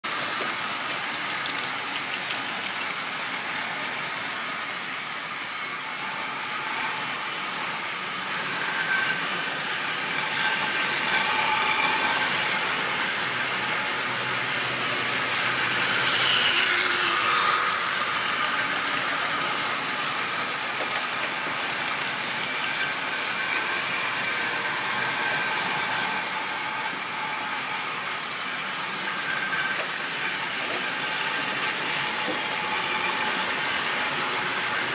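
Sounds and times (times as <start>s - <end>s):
model trains running on track: 0.0s - 34.9s.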